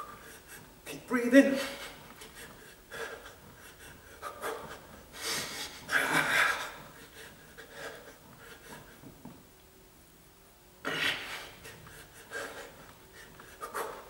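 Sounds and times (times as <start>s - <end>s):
man breathing hard: 0.0s - 0.8s, 1.6s - 9.4s, 10.9s - 14.0s.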